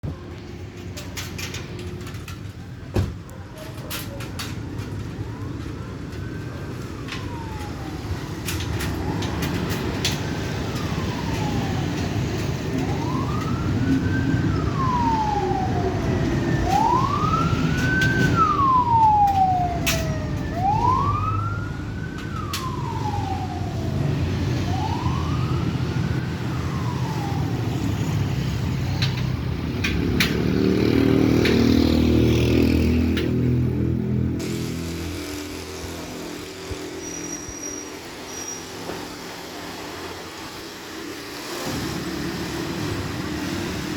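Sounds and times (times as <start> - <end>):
low traffic rumble: 0.0 - 43.9
emergency vehicle siren wailing: 0.1 - 43.9.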